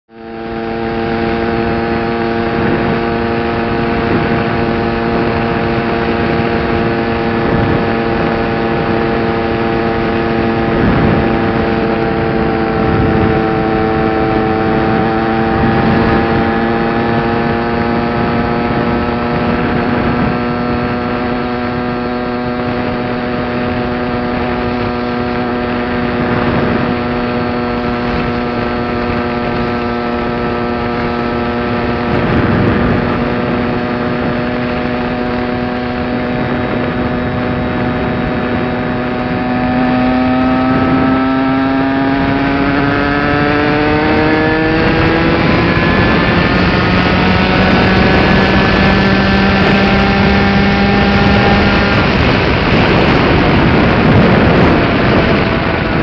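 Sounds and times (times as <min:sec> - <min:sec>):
two-stroke engine buzzing: 0:00.1 - 0:56.0
wind rushing: 0:00.4 - 0:56.0.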